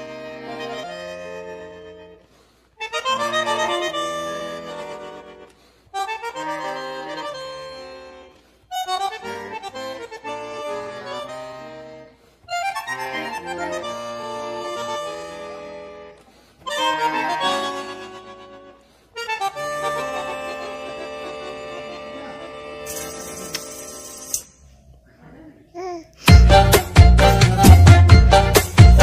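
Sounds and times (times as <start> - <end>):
accordion melody: 0.0 - 24.5, 26.2 - 29.0.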